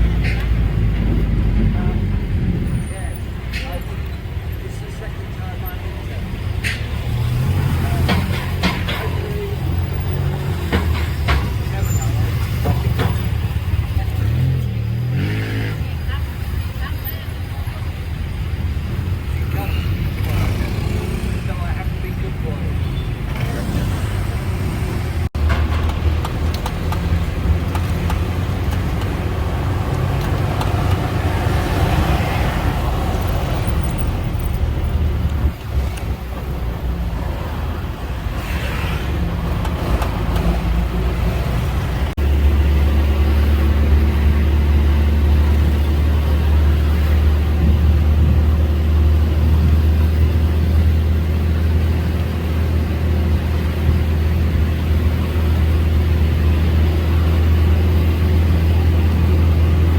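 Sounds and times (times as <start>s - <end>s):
road noise: 0.0s - 59.9s
vehicle engine drone: 0.0s - 59.9s.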